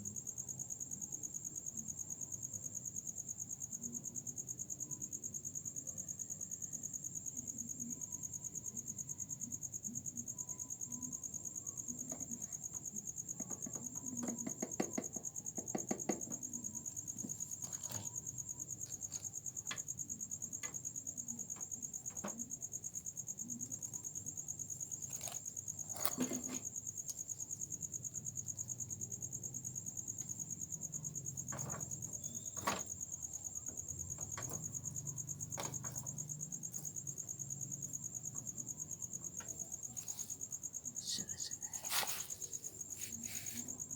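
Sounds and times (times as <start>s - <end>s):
cricket trilling: 0.0s - 43.9s.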